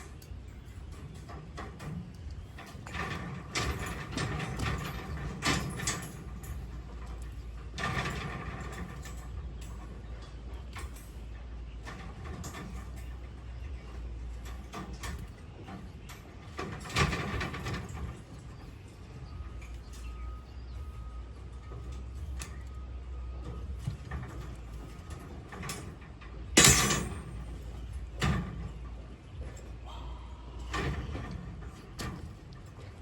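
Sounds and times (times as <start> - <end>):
tools clicking clanking and scraping: 0.0 - 29.9, 30.5 - 33.0.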